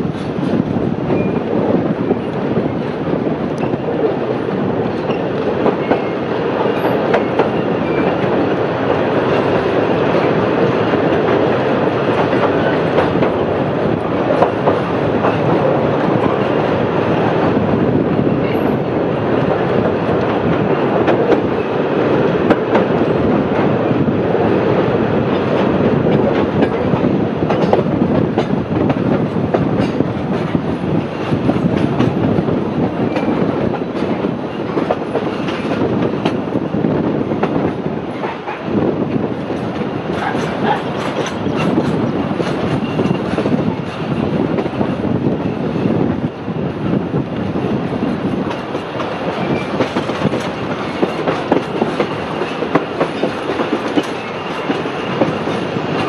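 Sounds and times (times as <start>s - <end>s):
rumble of wheels on rails: 0.0s - 56.0s.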